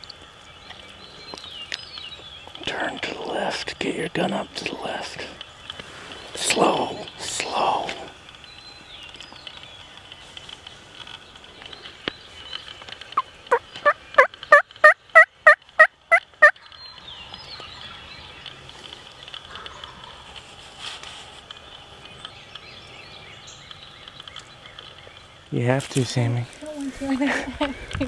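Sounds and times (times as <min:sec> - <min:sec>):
faint songbirds: 0:00.0 - 0:28.0.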